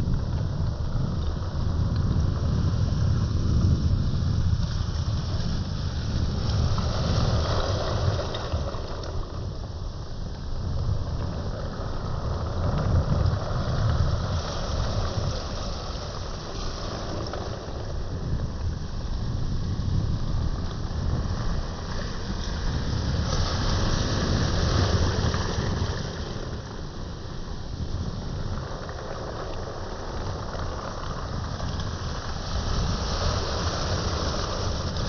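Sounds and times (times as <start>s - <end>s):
wind buffeting microphone: 0.0s - 35.0s
sea waves on a beach: 2.5s - 35.0s.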